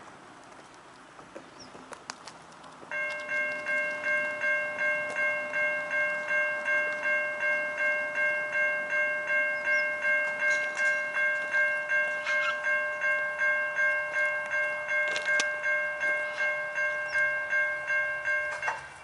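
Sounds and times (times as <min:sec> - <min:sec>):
constant warning tone: 0:02.6 - 0:19.0
level crossing bell ringing: 0:02.9 - 0:19.0.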